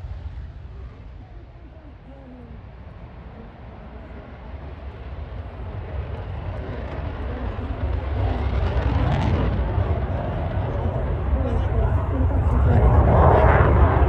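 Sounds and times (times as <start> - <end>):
fighter jet engine roar: 0.0 - 14.0.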